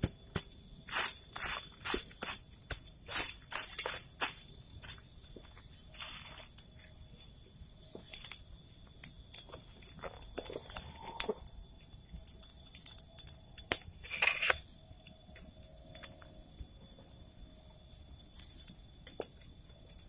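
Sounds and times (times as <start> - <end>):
high drone of insects: 0.0 - 20.0.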